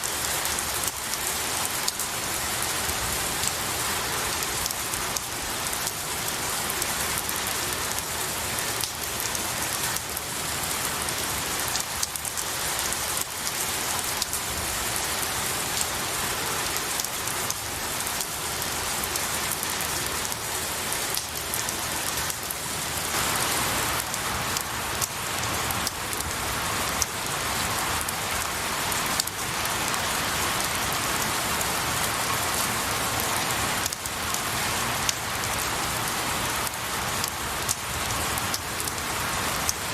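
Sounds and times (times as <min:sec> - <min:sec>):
rain pattering on trees: 0:00.0 - 0:39.9.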